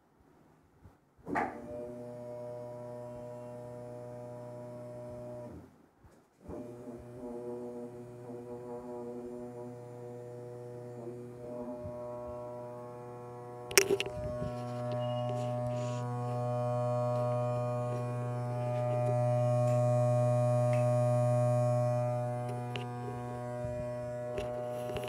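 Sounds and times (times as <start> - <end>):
small electric motor humming: 1.7 - 5.6, 6.6 - 25.0.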